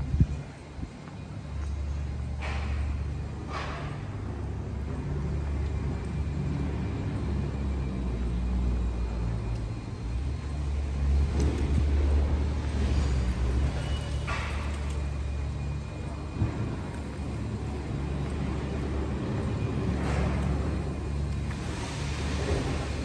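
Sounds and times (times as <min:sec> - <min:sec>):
street noise: 0:00.0 - 0:23.0
traffic rumble: 0:00.0 - 0:23.0.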